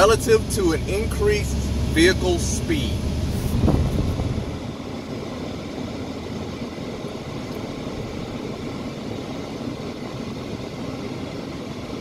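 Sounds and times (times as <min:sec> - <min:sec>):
vehicle rumble inside cab: 0:00.0 - 0:12.0.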